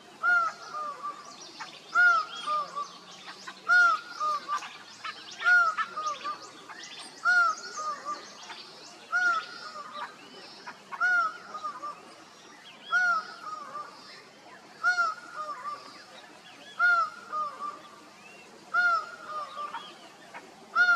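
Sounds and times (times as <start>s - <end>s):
birds chirping: 0.2s - 20.9s.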